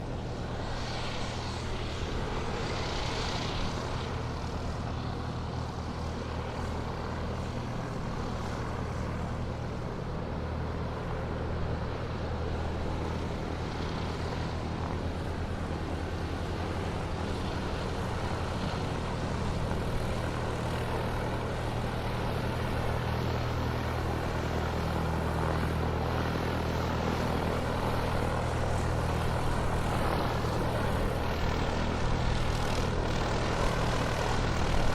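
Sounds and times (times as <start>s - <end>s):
airplane engines droning: 0.0s - 34.9s.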